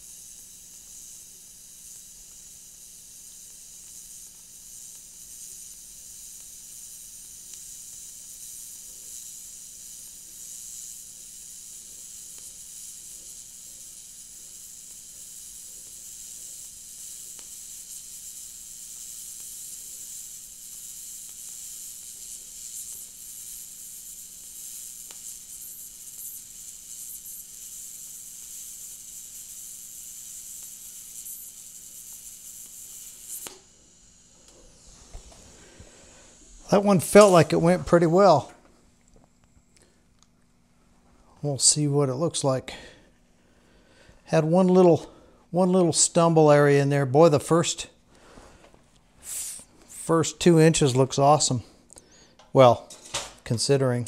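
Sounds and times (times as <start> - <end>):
welding arc hissing: 0.0 - 38.6, 41.3 - 43.3, 43.9 - 54.0.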